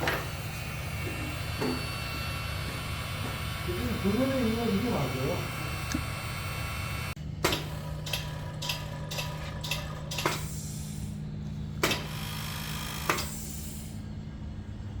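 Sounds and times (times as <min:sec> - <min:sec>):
vacuum pump humming: 0:00.0 - 0:14.4.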